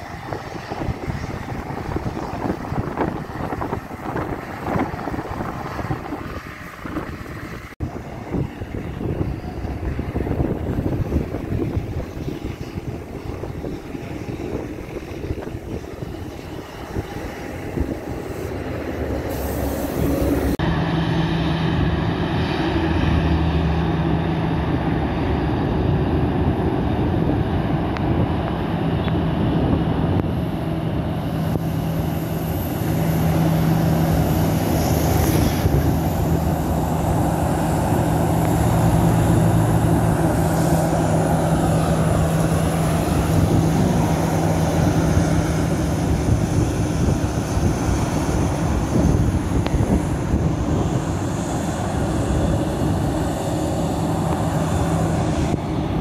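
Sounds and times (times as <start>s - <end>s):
jet engines idling: 0.0s - 56.0s
low airport rumble: 0.0s - 56.0s
wind buffeting microphone: 0.0s - 56.0s.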